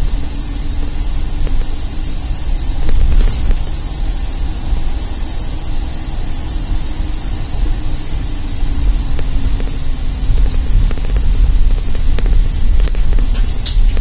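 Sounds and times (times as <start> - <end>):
car road and tyre noise: 0.0 - 14.0.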